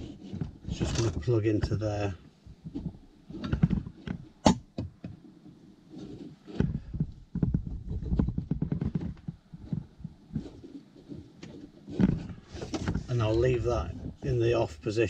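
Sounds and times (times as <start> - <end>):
cables rustling and knocking: 0.0 - 14.5.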